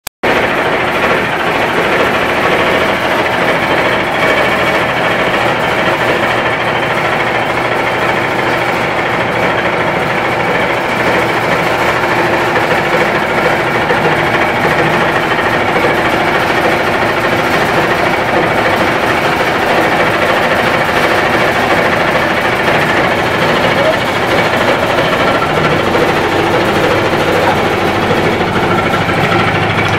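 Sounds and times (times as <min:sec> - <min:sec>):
centrifuge motor and drum running: 0:00.2 - 0:29.9.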